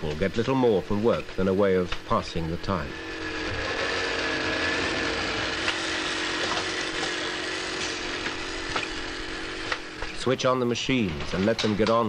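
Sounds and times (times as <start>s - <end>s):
sewing machine whirring: 0.6s - 12.0s.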